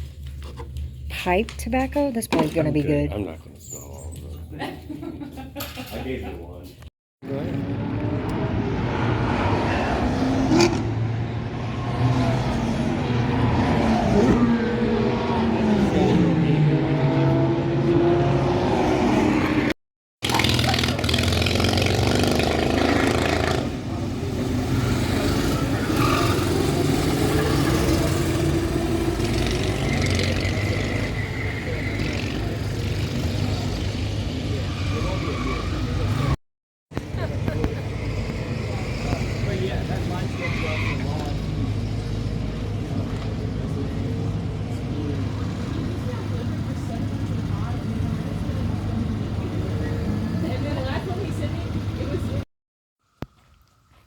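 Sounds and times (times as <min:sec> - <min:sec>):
road noise: 0:00.0 - 0:04.6, 0:05.2 - 0:54.0
car engine: 0:07.2 - 0:36.4, 0:37.0 - 0:52.4.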